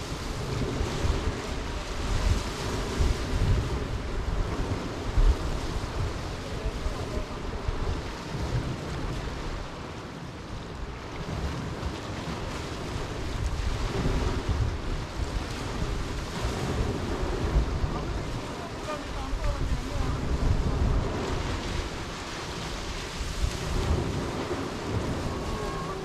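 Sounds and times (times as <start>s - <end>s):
waves washing over pebbles: 0.0s - 26.0s
wind buffeting microphone: 0.0s - 26.0s.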